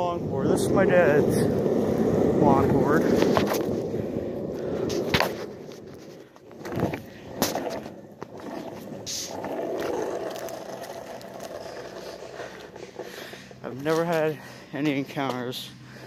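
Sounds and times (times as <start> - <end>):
skateboard wheels rolling: 0.0 - 15.9.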